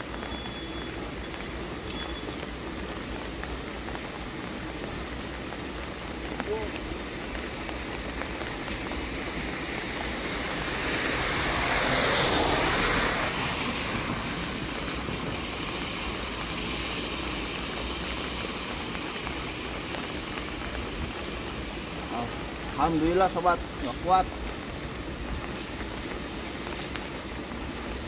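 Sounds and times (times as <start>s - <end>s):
rain hissing: 0.0s - 28.0s
vehicle passing on wet road: 0.0s - 28.0s.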